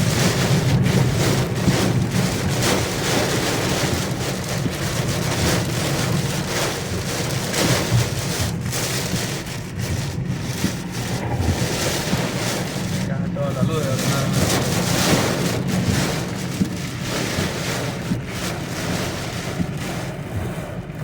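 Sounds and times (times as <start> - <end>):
heavy rain: 0.0 - 21.0
low rumble: 0.0 - 21.0
wind: 0.0 - 21.0.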